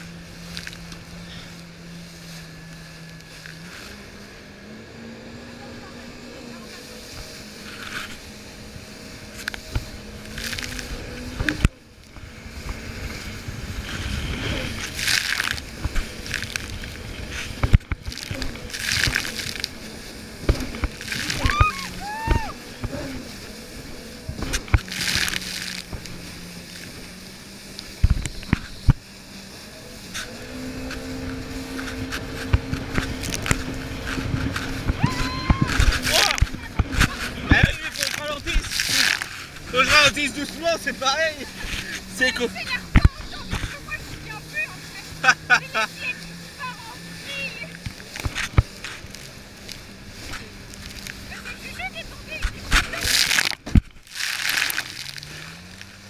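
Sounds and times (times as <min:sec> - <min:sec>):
water rushing along hull: 0:00.0 - 0:56.0
watercraft engine running: 0:00.0 - 0:56.0
splashing spray: 0:05.0 - 0:56.0.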